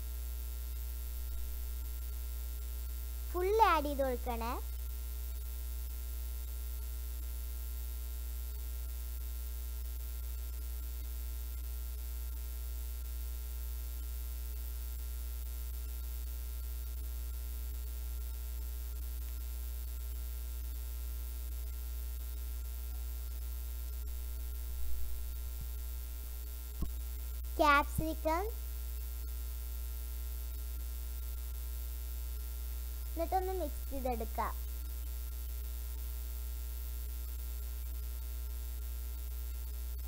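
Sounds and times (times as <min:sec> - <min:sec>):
buzz of steady tones: 0:00.0 - 0:08.8, 0:13.9 - 0:40.0
electrical mains hum: 0:00.0 - 0:40.0.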